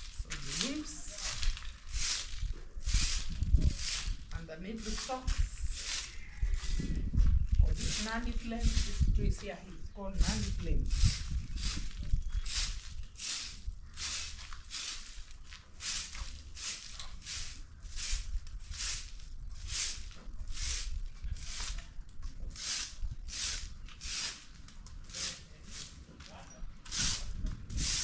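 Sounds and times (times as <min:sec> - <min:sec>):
broom sweeping leaves on paving: 0:00.0 - 0:06.9, 0:07.7 - 0:09.6, 0:10.2 - 0:21.9, 0:22.5 - 0:26.0, 0:26.9 - 0:28.0.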